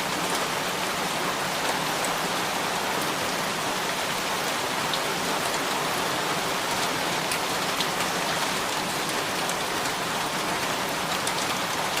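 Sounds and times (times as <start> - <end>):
heavy rain splashing: 0.0 - 12.0.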